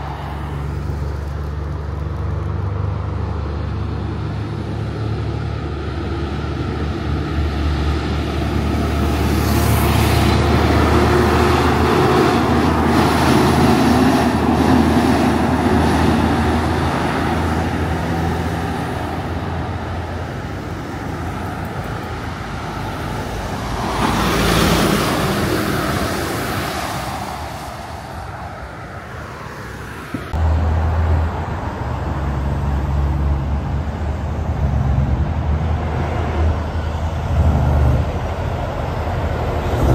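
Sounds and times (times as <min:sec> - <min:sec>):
heavy trucks passing: 0:00.0 - 0:39.9.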